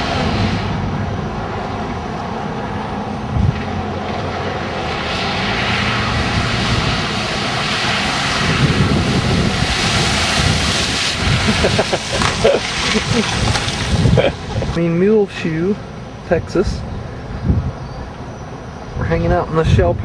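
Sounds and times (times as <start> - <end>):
road and engine rumble: 0.0 - 20.0
wind rushing over microphone: 0.0 - 20.0.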